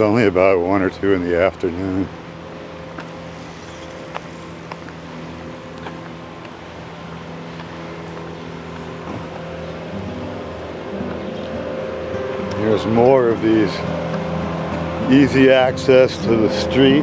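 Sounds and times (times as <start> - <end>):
bicycle rolling on pavement: 0.0 - 17.0.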